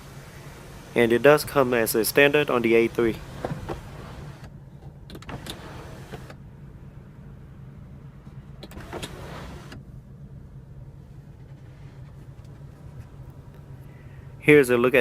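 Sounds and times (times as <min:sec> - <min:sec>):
low cabin hum: 0:00.0 - 0:15.0.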